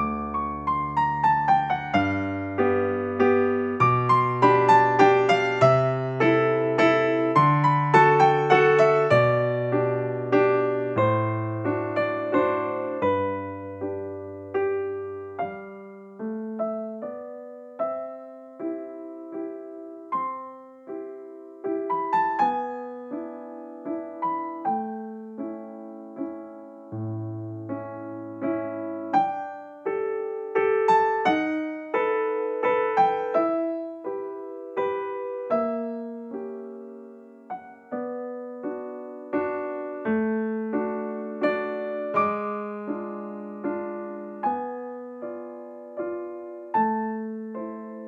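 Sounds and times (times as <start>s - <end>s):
slow piano melody: 0.0s - 48.0s.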